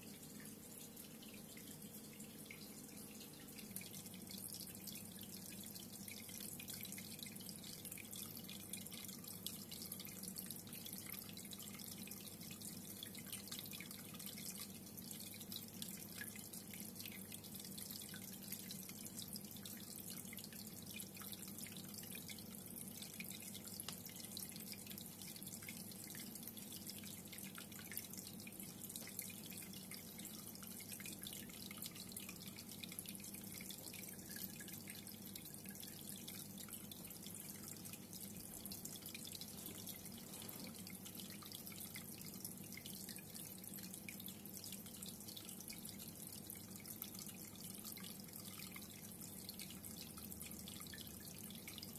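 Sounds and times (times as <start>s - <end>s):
water trickling and dripping: 0.0s - 51.9s.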